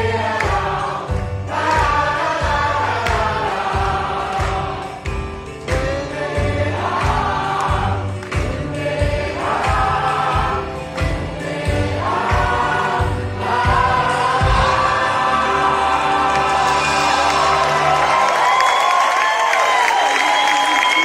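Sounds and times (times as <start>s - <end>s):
group singing over a band: 0.0s - 18.3s.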